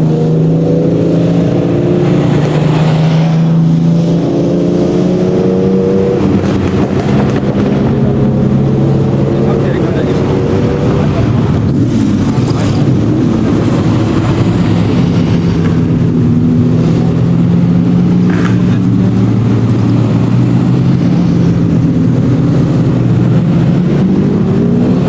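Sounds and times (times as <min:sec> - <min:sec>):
sports car engine running: 0:00.0 - 0:25.0.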